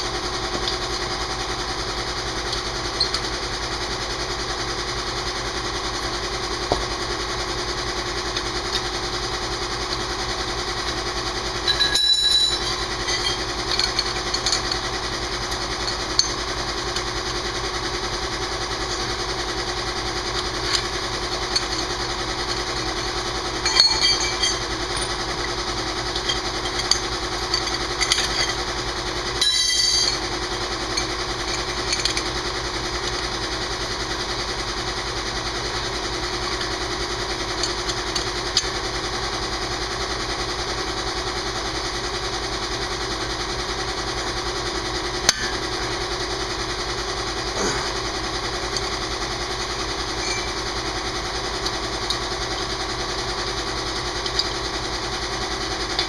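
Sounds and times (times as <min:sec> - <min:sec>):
steady machine drone: 0:00.0 - 0:56.0.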